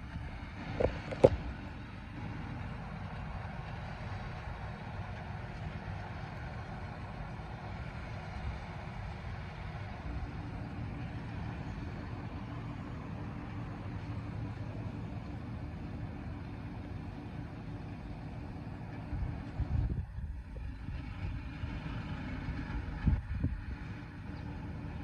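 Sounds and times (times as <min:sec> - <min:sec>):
baling machinery noise: 0:00.0 - 0:25.0
tractor engine drone: 0:00.0 - 0:25.0.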